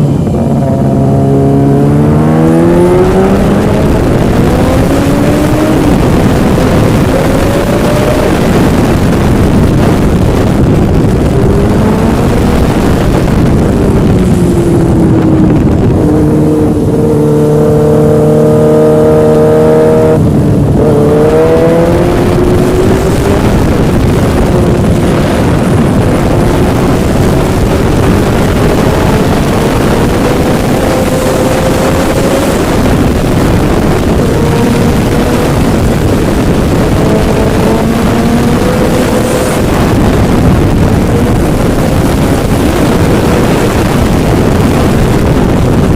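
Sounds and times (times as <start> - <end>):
engine running under way: 0.0 - 45.9
wind rush: 0.0 - 45.9.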